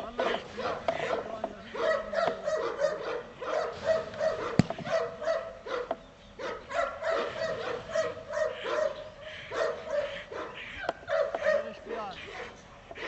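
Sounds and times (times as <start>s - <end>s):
dog barking: 0.1s - 13.0s.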